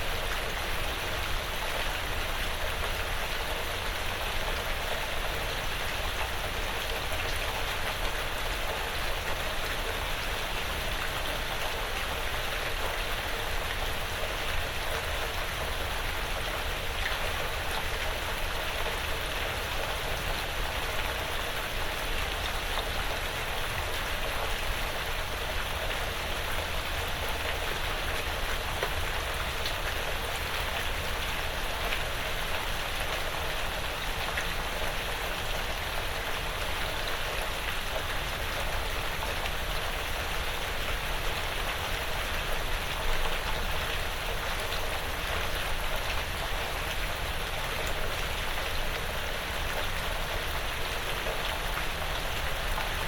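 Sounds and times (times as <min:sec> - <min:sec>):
light rain on a roof: 0:00.0 - 0:53.0.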